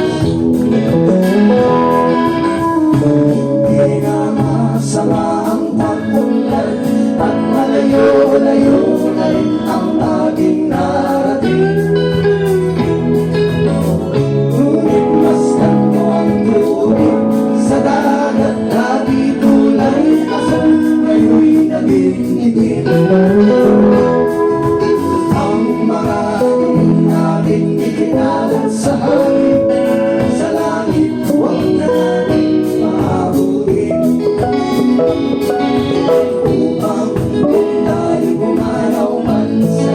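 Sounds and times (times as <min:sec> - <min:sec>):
person singing: 0:00.0 - 0:39.9
strummed guitar: 0:00.0 - 0:39.9.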